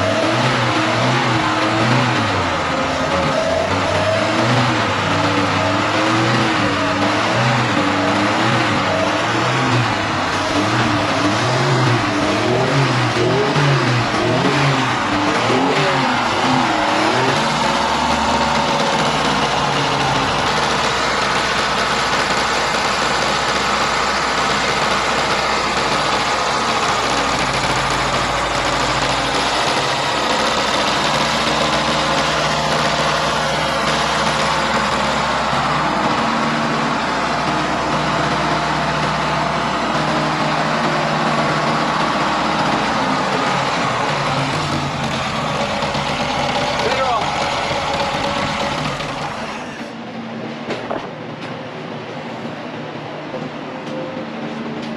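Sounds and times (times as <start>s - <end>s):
truck engine revving and idling: 0.0s - 54.9s.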